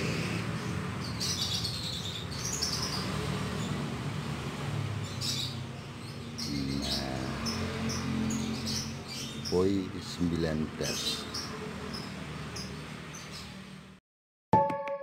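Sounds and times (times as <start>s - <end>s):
canaries chirping: 0.0s - 13.9s.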